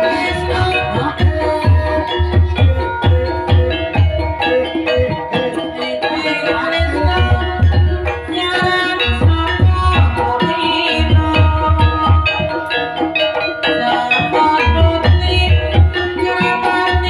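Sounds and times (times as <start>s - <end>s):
ringing pitched gamelan notes: 0.0s - 17.0s.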